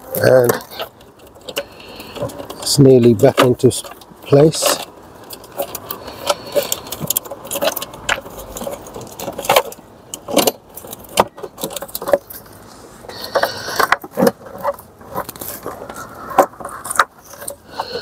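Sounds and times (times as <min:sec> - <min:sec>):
plastic scraping rub: 0:00.0 - 0:18.0.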